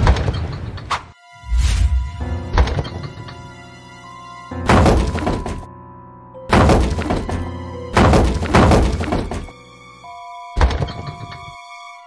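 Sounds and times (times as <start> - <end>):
cartoon background music: 0.0 - 12.0.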